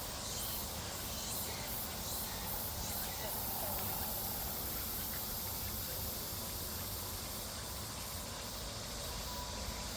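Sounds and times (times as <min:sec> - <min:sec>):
steady high hiss: 0:00.0 - 0:09.9.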